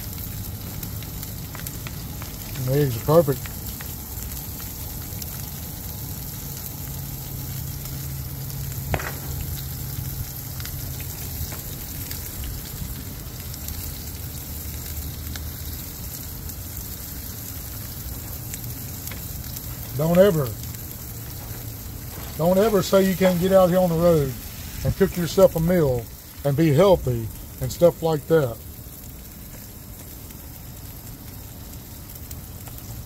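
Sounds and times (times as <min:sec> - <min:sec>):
steak sizzling in a skillet: 0:00.0 - 0:33.0.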